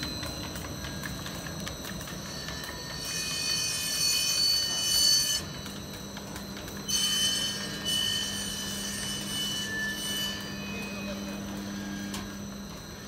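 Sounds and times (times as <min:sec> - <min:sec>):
high-pitched motor whine: 0:00.0 - 0:13.0.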